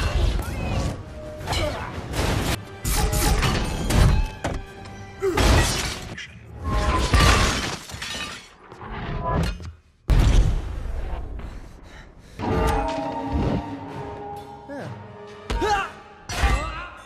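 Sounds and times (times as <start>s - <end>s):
action movie music: 0.0s - 7.8s, 8.8s - 17.0s.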